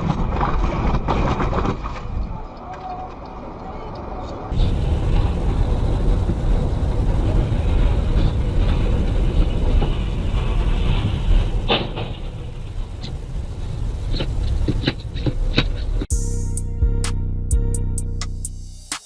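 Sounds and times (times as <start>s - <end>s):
heavy vehicle engine rumbling: 2.3s - 18.9s.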